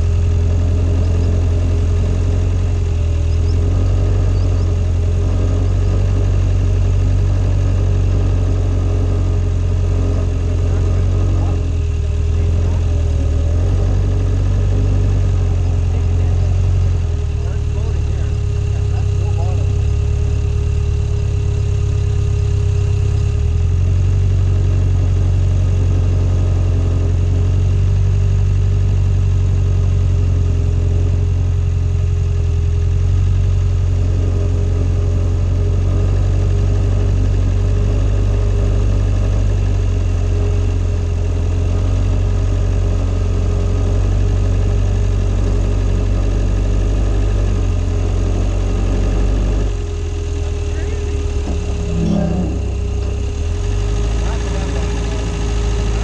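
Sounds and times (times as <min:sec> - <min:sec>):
steady whine: 0:00.0 - 0:56.0
swamp buggy engine running: 0:00.0 - 0:56.0.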